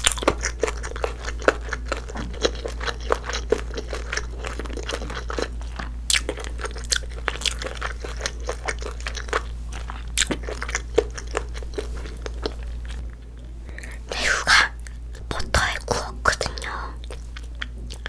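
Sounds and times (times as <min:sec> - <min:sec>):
mouth chewing food: 0:00.0 - 0:18.0.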